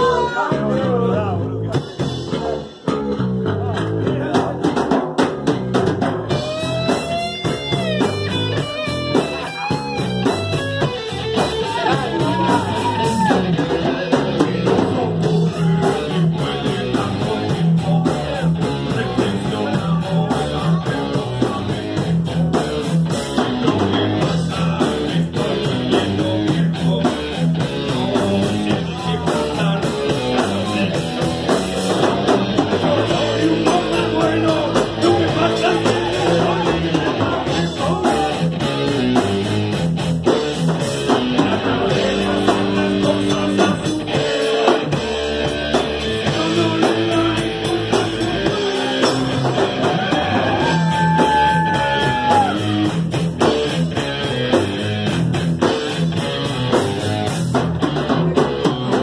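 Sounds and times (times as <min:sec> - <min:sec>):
person singing: 0:00.0 - 0:05.0, 0:06.3 - 0:39.2, 0:41.0 - 0:52.9
drum kit: 0:00.0 - 0:59.0
electric guitars: 0:00.0 - 0:59.0.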